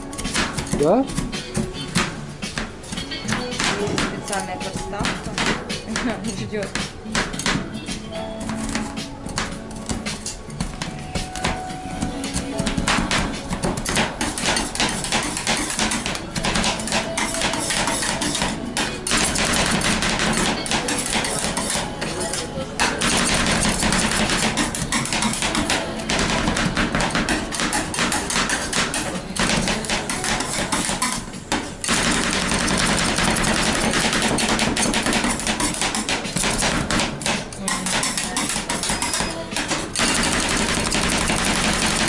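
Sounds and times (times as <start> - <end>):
metal spatulas chopping on metal: 0.1 - 42.0.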